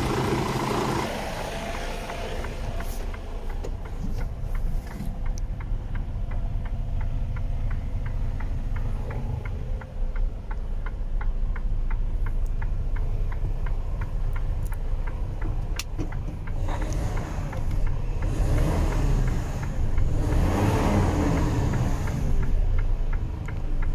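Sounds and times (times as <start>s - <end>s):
diesel engine rumble: 0.0s - 23.9s
light regular ticking: 1.6s - 23.9s.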